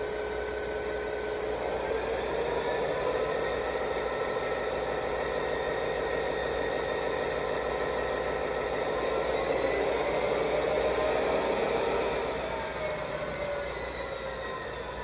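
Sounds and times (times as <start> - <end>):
train mechanical noise: 0.0 - 15.0
faint whining tones: 0.1 - 15.0.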